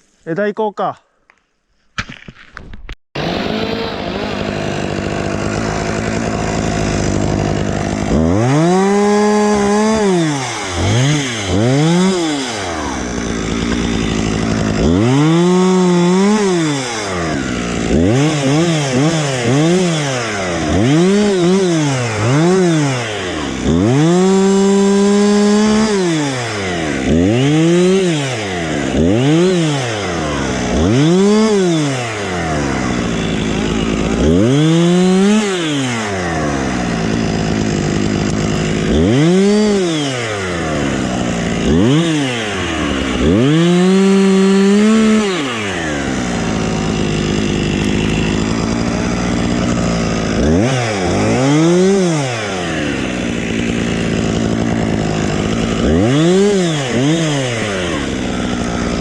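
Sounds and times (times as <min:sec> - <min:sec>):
chainsaw revving: 0:03.2 - 0:59.0.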